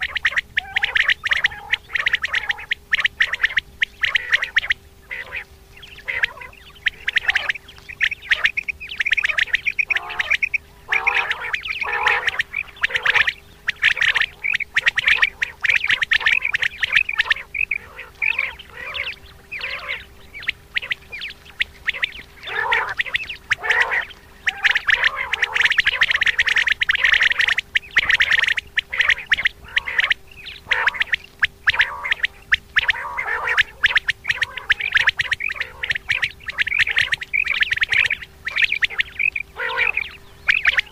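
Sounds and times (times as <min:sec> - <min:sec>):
quail calling: 0:00.0 - 0:40.9.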